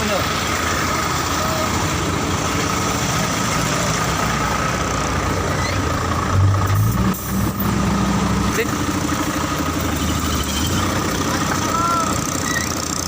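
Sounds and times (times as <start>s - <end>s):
heavy diesel truck engine running: 0.0s - 13.0s.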